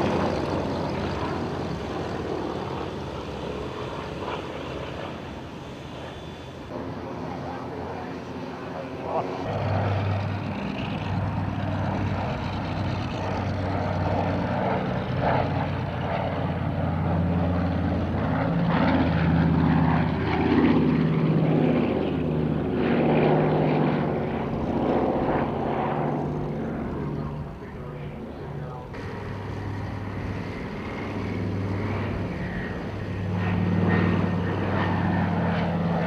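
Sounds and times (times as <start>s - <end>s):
propeller aircraft engines droning: 0.0s - 36.0s.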